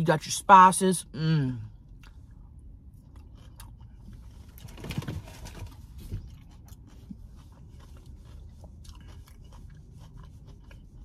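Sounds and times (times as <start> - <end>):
low steady hum: 0.0 - 11.0
person chewing coleslaw: 1.7 - 11.0.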